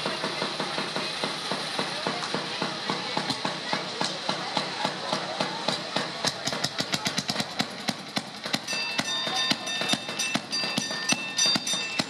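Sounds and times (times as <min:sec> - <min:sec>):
small engine running: 0:00.0 - 0:12.0
wheels clattering on track: 0:00.0 - 0:12.0.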